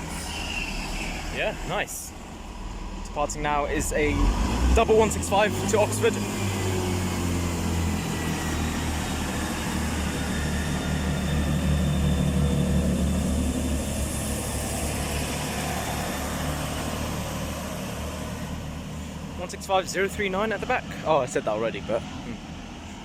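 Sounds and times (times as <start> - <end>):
diesel train engines droning: 0.0 - 23.0.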